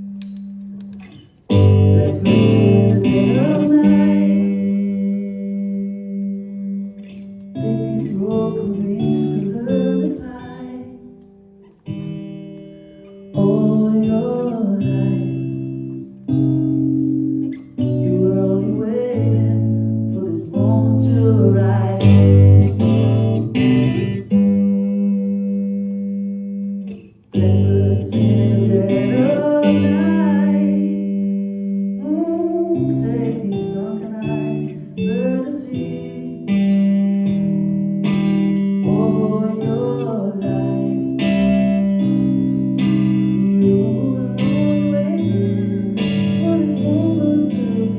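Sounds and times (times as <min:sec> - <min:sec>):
guitar playing: 0:00.0 - 0:47.9
person singing: 0:00.9 - 0:11.3, 0:13.1 - 0:16.2, 0:17.5 - 0:25.6, 0:27.3 - 0:37.0, 0:38.6 - 0:41.8, 0:42.8 - 0:47.9.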